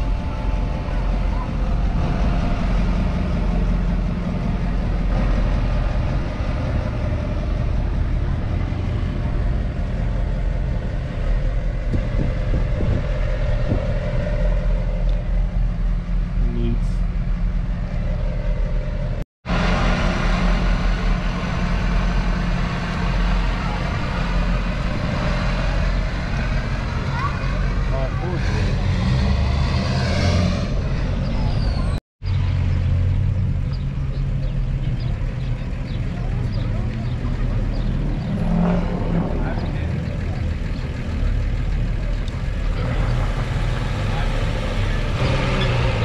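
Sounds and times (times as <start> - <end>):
vehicle engine rumbling: 0.0 - 46.0.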